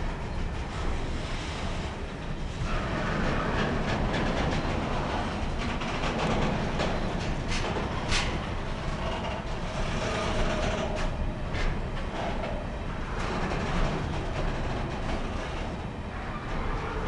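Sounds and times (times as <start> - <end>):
steel wheels rumbling on rails: 0.0 - 17.0.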